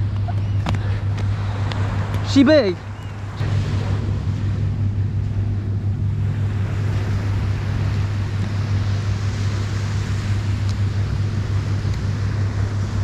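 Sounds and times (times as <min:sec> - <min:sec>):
surf washing on beach: 0:00.0 - 0:13.0
wind rumble on microphone: 0:00.0 - 0:13.0.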